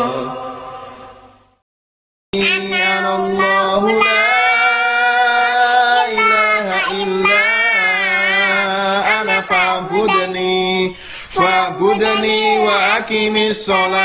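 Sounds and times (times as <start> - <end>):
girl singing: 2.4 - 14.0
man singing along: 2.4 - 14.0.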